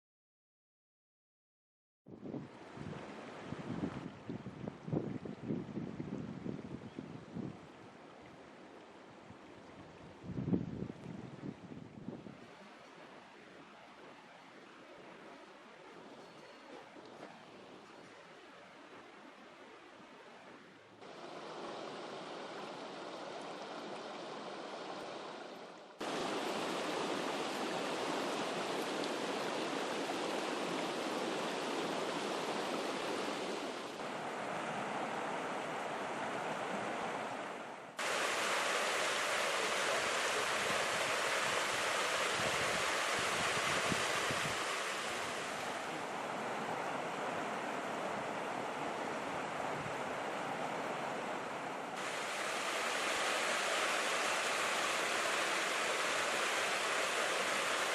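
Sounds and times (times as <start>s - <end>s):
rushing water: 2.2s - 57.9s.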